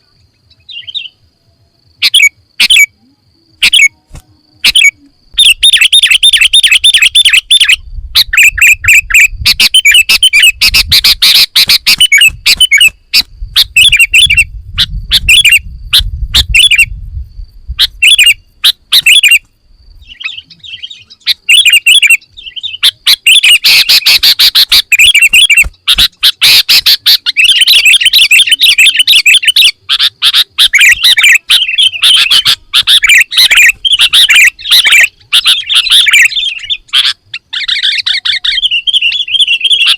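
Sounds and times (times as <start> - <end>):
bulbul singing: 0.0 - 1.2, 1.9 - 17.0, 17.8 - 39.9.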